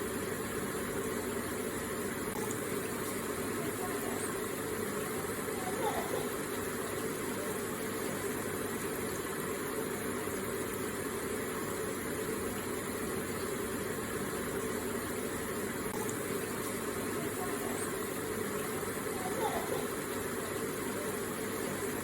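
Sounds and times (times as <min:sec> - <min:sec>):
water trickling and splashing: 0:00.1 - 0:22.0.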